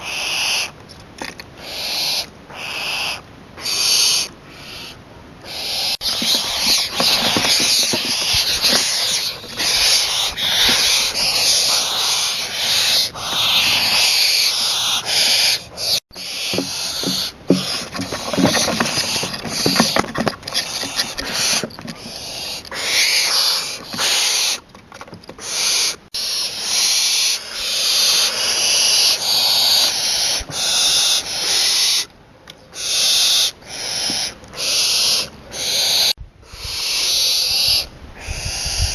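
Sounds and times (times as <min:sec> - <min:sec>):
barn owl hissing: 0:00.0 - 0:00.8, 0:01.6 - 0:20.0, 0:20.6 - 0:24.6, 0:25.4 - 0:32.1, 0:32.8 - 0:38.9.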